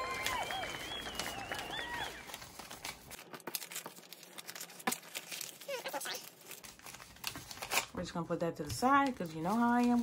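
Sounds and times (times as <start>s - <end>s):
paper banknotes rustling: 0.0s - 8.0s, 8.8s - 10.0s.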